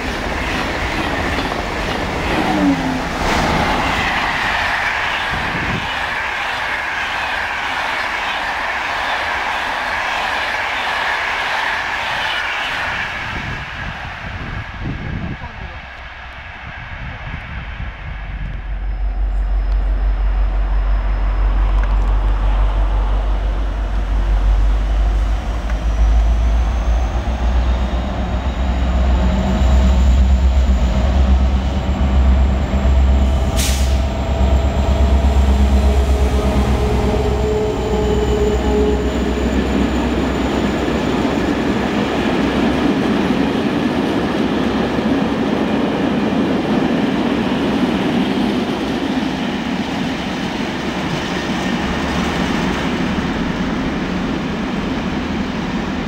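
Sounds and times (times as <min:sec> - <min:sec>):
diesel locomotive engine throb: 0:00.0 - 0:56.0.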